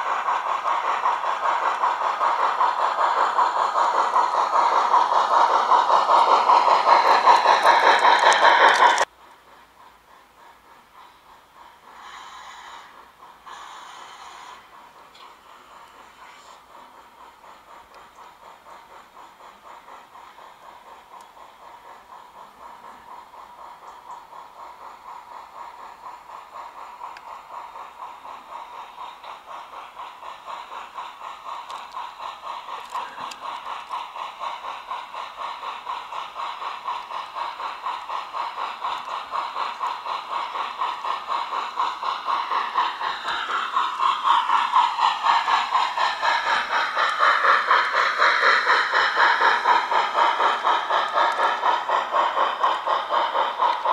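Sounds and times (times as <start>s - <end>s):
model steam locomotive chuffing: 0.0s - 53.9s.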